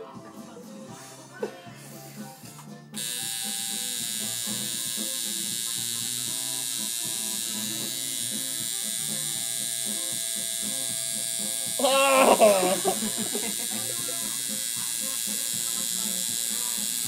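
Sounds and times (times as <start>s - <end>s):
tattoo machine buzzing: 3.0s - 17.0s.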